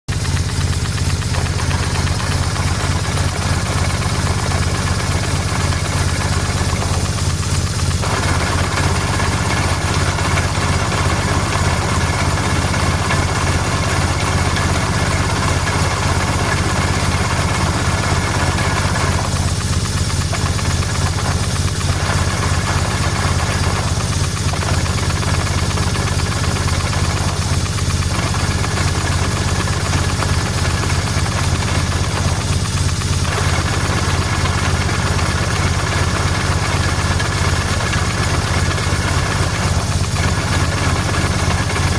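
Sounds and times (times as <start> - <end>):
engine knocking and ticking: 0.0 - 41.9
motorcycle engine idling: 0.1 - 41.9.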